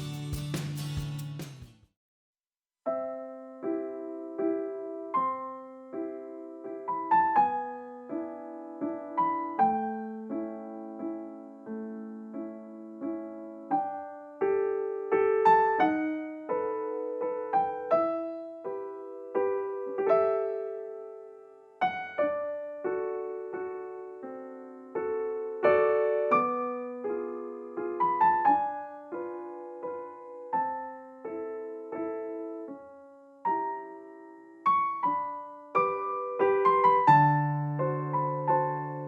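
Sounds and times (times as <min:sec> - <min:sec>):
slow gentle piano melody: 0:02.9 - 0:39.0.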